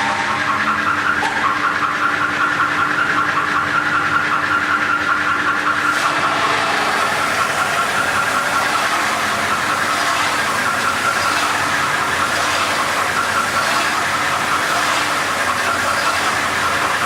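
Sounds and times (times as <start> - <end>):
wet grinder humming and whining: 0.0 - 17.0.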